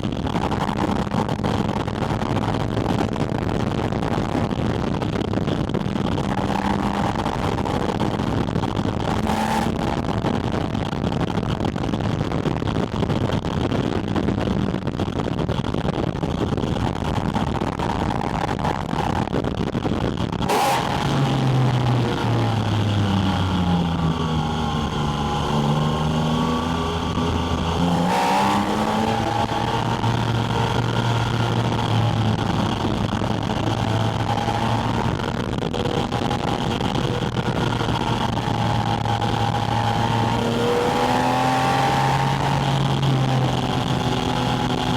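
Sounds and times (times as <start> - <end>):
wind rush while driving: 0.0 - 44.9.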